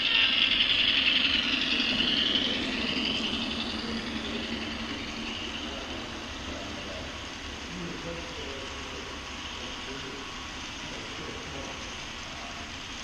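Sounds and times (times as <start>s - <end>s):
high-pitched whine: 0.0s - 13.0s
model train rolling rattle: 0.0s - 13.0s.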